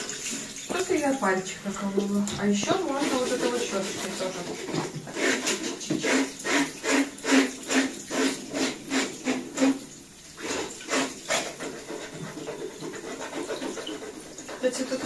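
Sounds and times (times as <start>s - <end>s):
brush scrubbing wet cloth: 0.0s - 15.0s
tap water running: 0.0s - 15.0s.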